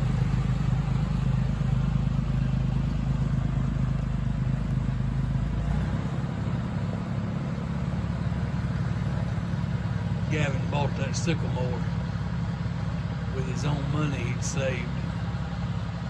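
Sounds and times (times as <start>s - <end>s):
atv engine running: 0.0s - 16.0s
tractor engine running: 0.0s - 16.0s.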